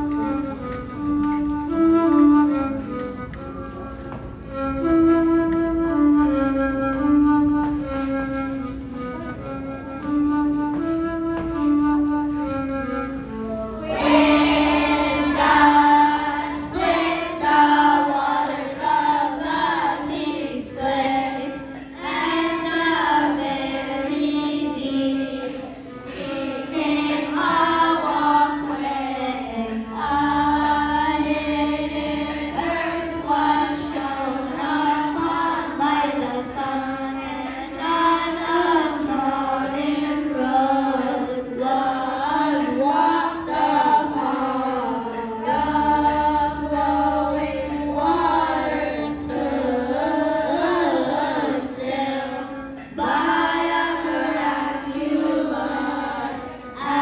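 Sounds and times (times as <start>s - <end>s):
children's choir singing a hymn: 0.0s - 57.0s
sustained low accompanying notes: 0.0s - 57.0s.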